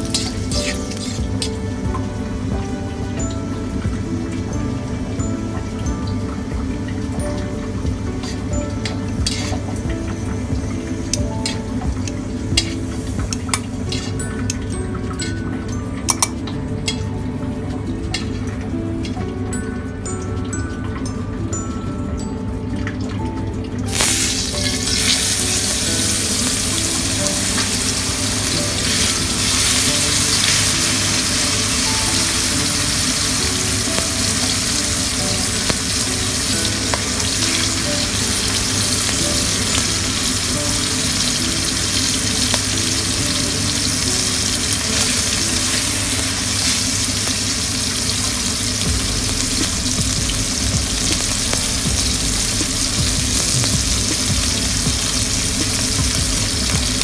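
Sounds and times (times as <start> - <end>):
oil sizzling in a wok: 0.0 - 57.0
steak frying: 0.0 - 57.0.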